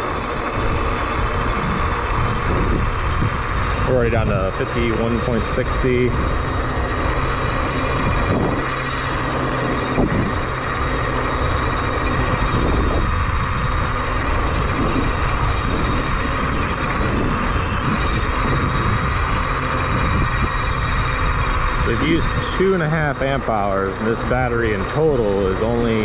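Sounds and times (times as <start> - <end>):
electric motor whine: 0.0 - 26.0
wind and tyre noise: 0.0 - 26.0.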